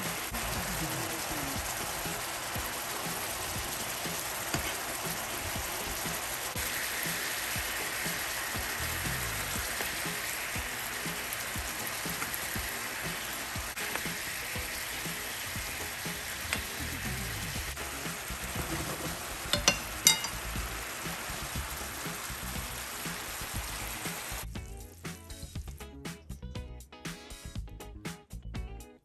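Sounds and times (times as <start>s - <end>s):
sauce sizzling in a frying pan: 0.0s - 25.6s.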